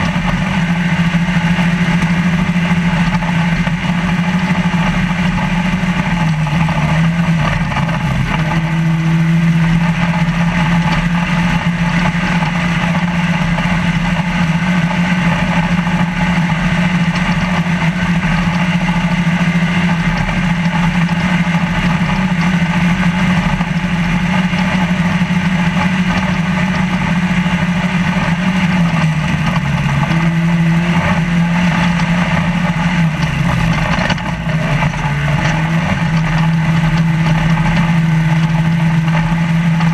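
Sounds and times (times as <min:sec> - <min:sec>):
dirt and chassis noise: 0:00.0 - 0:39.9
race truck engine at high revs: 0:00.0 - 0:39.9.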